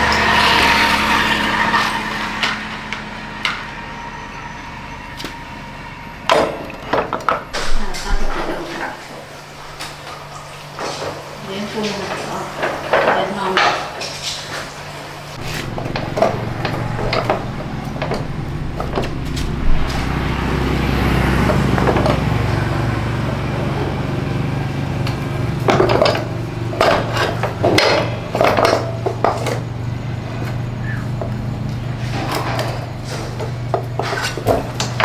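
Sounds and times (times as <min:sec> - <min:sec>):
steady low hum: 0:00.0 - 0:35.0
dishes and utensils clattering: 0:06.3 - 0:35.0.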